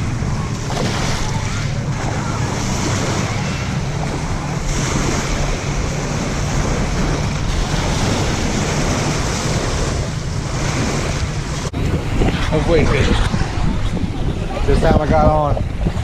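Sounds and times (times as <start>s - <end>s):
lake water lapping: 0.0s - 16.0s
wind buffeting microphone: 0.0s - 16.0s.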